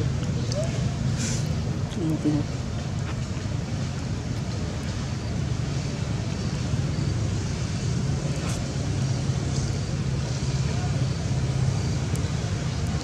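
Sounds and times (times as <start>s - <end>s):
low engine hum: 0.0s - 13.0s
outdoor background noise: 0.0s - 13.0s.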